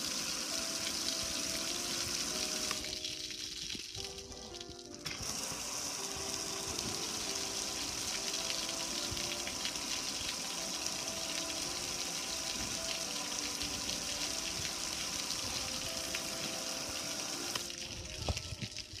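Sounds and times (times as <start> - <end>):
water spraying with a hiss: 0.0 - 3.9, 5.1 - 19.0
faint background music: 0.0 - 19.0.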